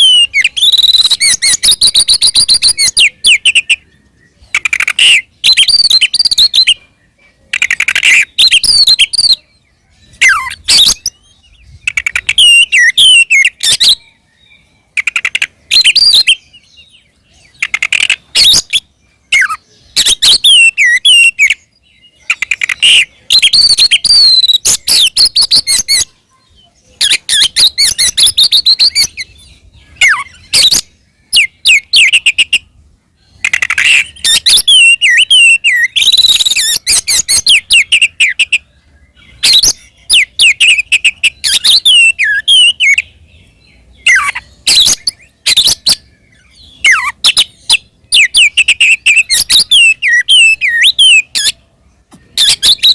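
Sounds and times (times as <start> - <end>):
bird singing whistles and trills: 0.0 - 52.9.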